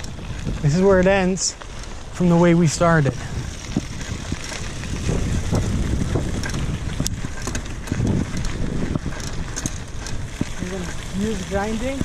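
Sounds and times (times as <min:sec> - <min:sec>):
bike clicks and rattles: 0:00.0 - 0:12.0
tyres rumbling on dirt: 0:00.0 - 0:12.0
wind buffeting microphone: 0:00.0 - 0:12.0.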